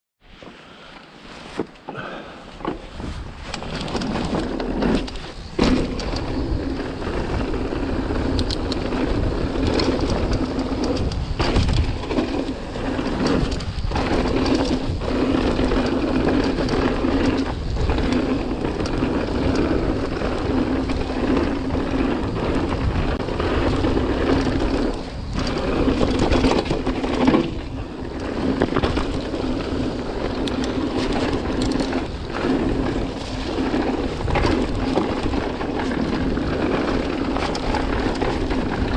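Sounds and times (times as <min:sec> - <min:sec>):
bike tyres on dirt: 0:00.2 - 0:38.9
bike rattling over bumps: 0:00.8 - 0:38.9
wind noise on microphone: 0:02.6 - 0:38.9.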